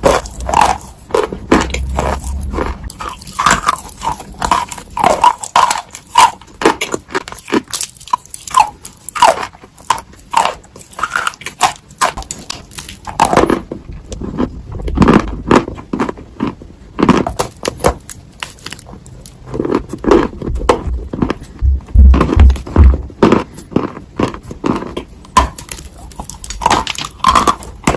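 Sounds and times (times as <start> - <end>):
crunchy chewing of clay: 0.0 - 27.9.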